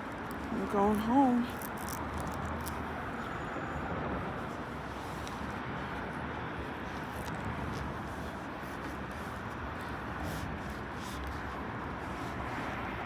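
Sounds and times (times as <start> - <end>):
vehicle road noise: 0.0 - 13.0.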